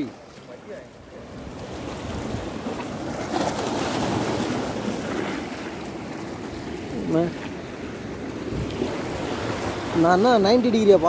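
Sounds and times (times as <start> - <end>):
waves washing against rocks: 0.0 - 11.0.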